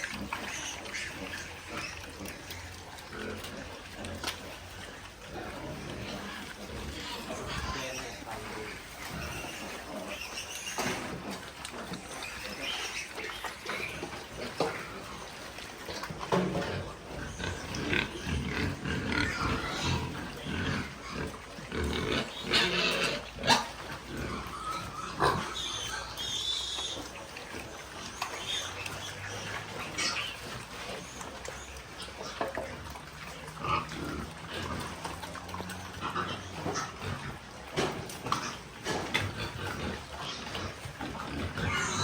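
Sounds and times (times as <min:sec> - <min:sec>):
pigs vocalising: 0:00.0 - 0:42.0.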